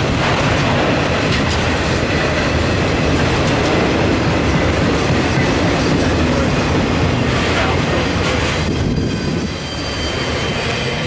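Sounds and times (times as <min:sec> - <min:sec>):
freight cars rolling on rails: 0:00.0 - 0:11.0.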